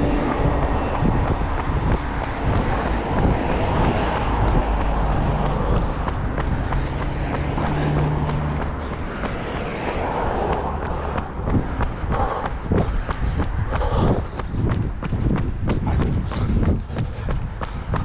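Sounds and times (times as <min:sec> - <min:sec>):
motor vehicle running: 0:00.0 - 0:18.0
wind rumbling on microphone: 0:00.0 - 0:18.0.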